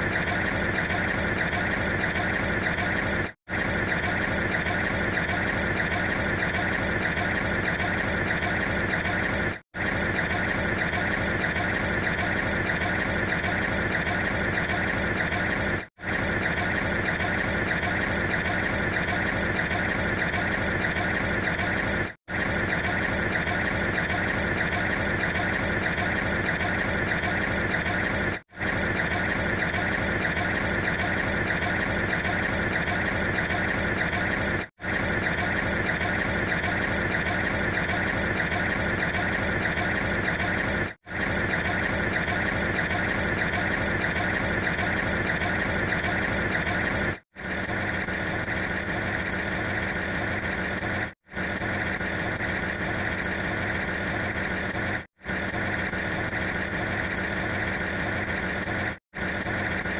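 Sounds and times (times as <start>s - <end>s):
mechanical engine drone: 0.0s - 59.9s.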